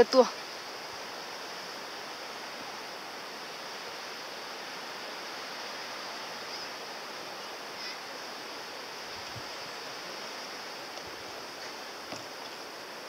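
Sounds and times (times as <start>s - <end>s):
rushing outdoor ambience: 0.0s - 13.0s.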